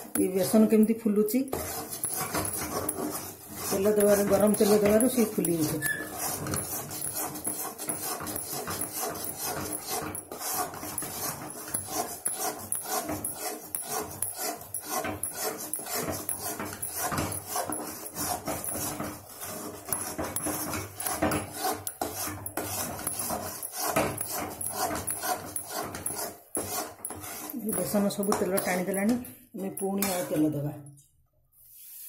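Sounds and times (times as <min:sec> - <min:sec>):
wooden spatula scraping metal pan: 0:00.0 - 0:30.7.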